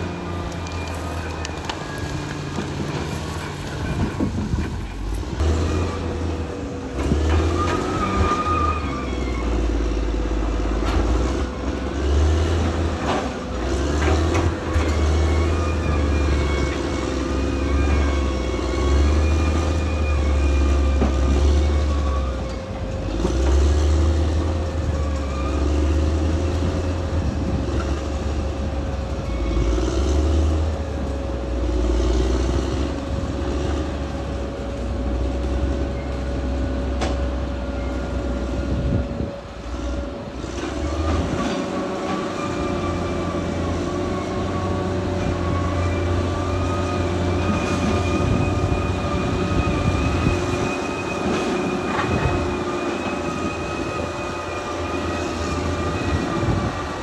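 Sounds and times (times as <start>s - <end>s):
bulldozer diesel engine rumbling: 0.0s - 57.0s
steel tracks squealing and clattering: 0.0s - 57.0s.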